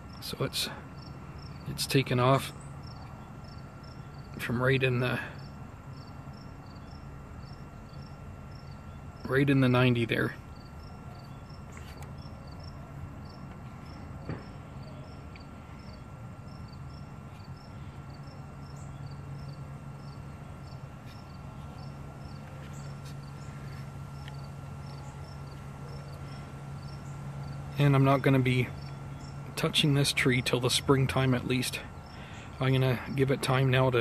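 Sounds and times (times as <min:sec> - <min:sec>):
cricket chirping: 0:00.0 - 0:04.4, 0:05.0 - 0:09.9, 0:10.5 - 0:33.4
steady low hum: 0:00.0 - 0:34.0.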